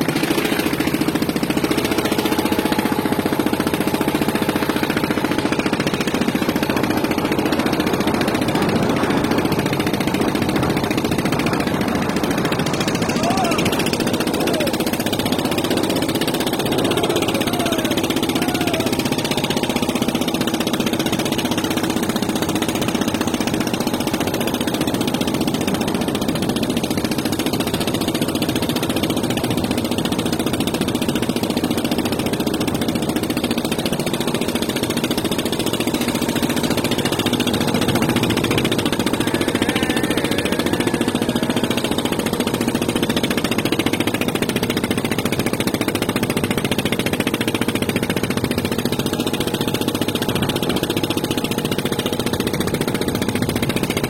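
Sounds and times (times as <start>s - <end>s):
engine running with fast rattle: 0.0s - 54.0s.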